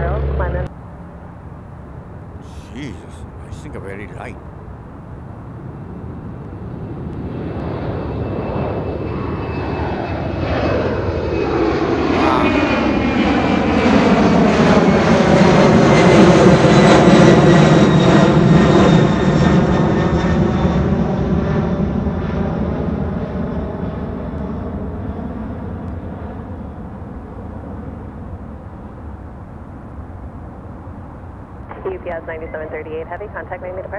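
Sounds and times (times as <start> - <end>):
jet aircraft taking off: 0.2 - 33.9.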